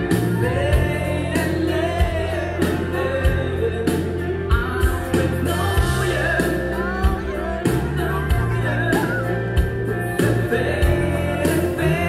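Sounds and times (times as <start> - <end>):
backing band with steady beat: 0.0 - 12.0
keyboards: 0.0 - 12.0
woman singing lead: 0.0 - 12.0.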